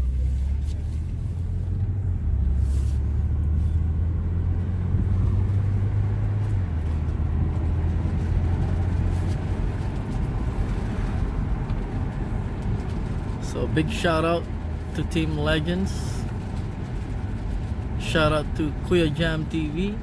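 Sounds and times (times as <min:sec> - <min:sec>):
car engine drone: 0:00.0 - 0:20.0
road noise: 0:00.0 - 0:20.0.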